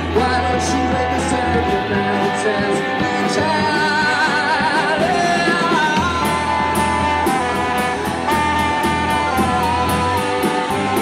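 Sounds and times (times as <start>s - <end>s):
bass: 0.0s - 11.0s
lead guitar held notes: 0.0s - 11.0s.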